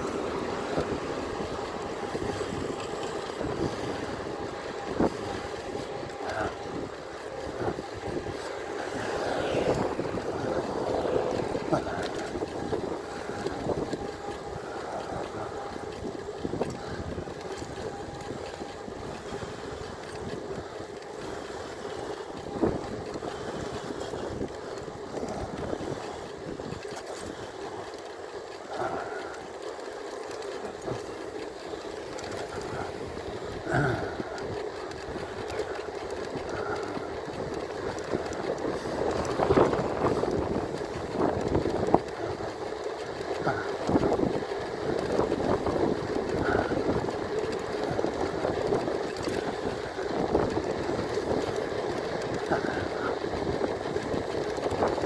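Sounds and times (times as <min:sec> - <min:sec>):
bike rattling over bumps: 0:00.0 - 0:55.0
tyre and wind noise: 0:00.0 - 0:55.0.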